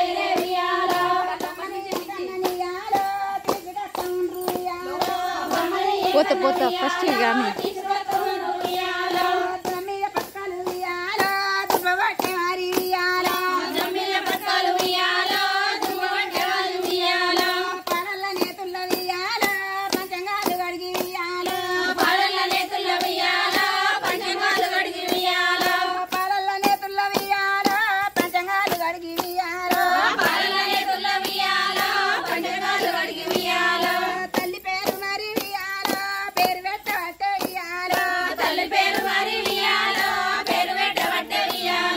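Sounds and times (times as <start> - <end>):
hands clapping in rhythm: 0.0 - 41.9
women singing folk song: 0.0 - 41.9.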